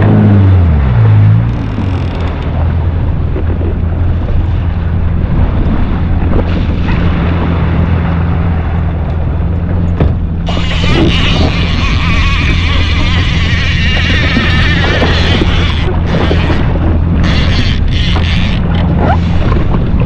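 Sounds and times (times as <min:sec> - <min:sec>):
jet ski engine humming: 0:00.0 - 0:20.0
sea water rushing: 0:00.0 - 0:20.0
wind buffeting microphone: 0:00.0 - 0:20.0.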